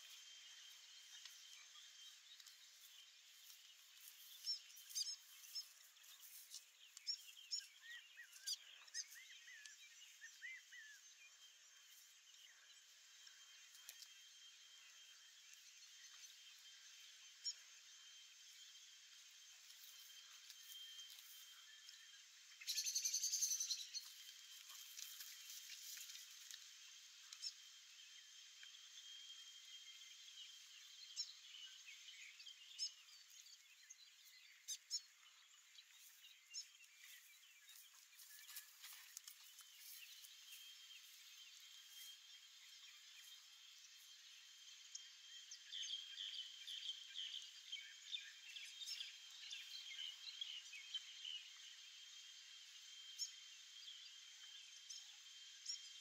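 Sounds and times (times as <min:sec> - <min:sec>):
birdsong warbling and chirps: 0:00.0 - 0:56.0
thin steady high hum: 0:00.0 - 0:56.0.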